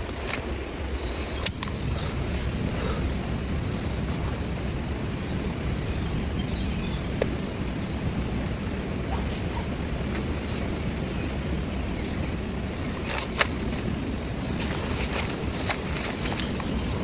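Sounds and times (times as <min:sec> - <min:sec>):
heavy rain falling: 0:01.0 - 0:17.0.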